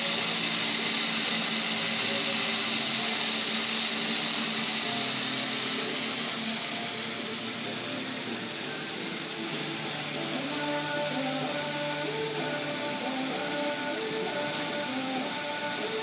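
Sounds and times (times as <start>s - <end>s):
laser machine air hiss: 0.0s - 16.0s.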